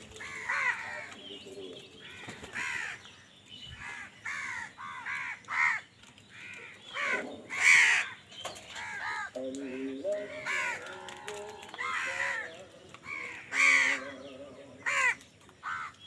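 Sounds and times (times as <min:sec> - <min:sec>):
crows cawing: 0:00.1 - 0:16.0.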